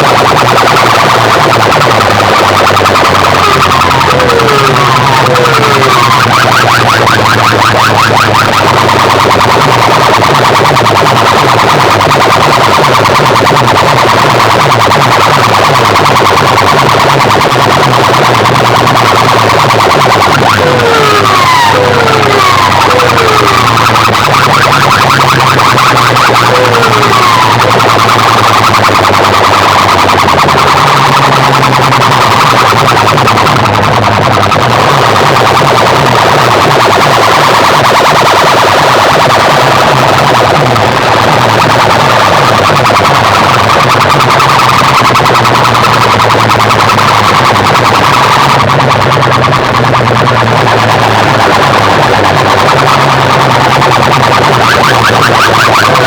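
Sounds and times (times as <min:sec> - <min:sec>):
low bass notes: 0:00.0 - 0:56.0
warbling siren-like electronic tone: 0:00.0 - 0:56.0.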